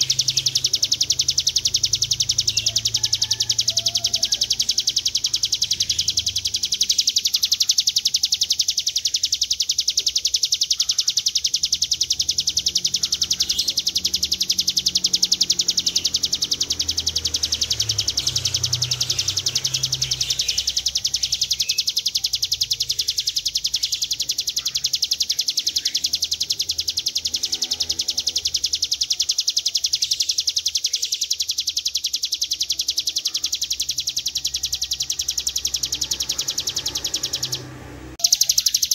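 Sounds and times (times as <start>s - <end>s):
bird buzzing trill: 0.0s - 38.9s.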